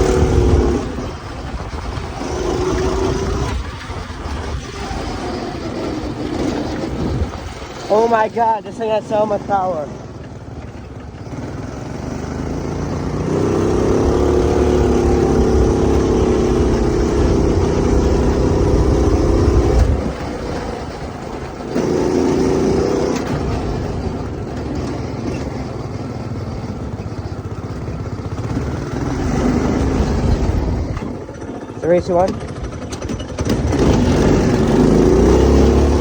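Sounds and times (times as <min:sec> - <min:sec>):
go-kart engine running hard: 0:00.0 - 0:36.0.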